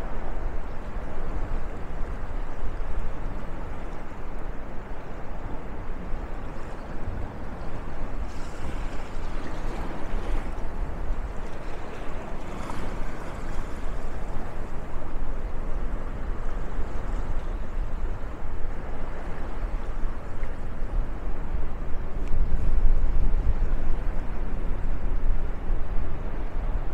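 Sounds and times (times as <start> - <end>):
steady rushing outdoor noise: 0.0 - 26.9.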